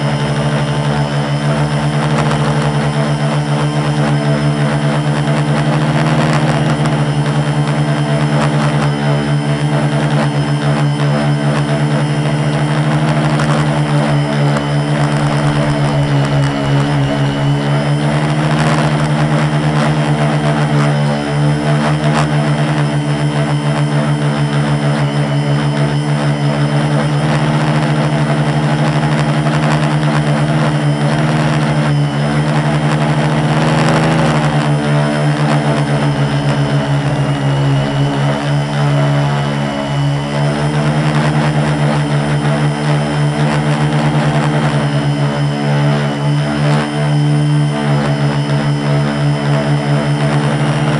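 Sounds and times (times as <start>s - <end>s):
quadcopter motors whining drone: 0.0s - 50.9s.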